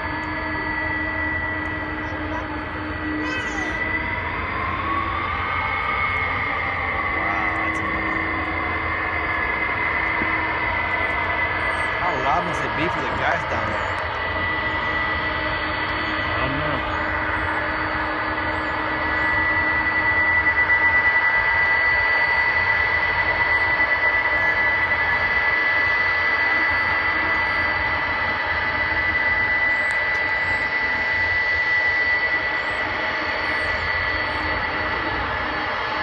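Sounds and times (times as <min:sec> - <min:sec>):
jet engines whining: 0:00.0 - 0:36.0.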